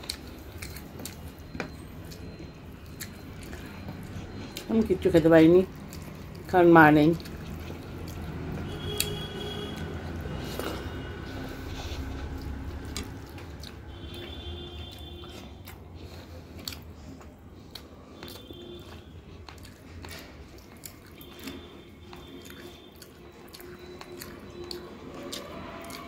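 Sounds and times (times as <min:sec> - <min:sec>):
close-up chewing: 0:00.0 - 0:26.0.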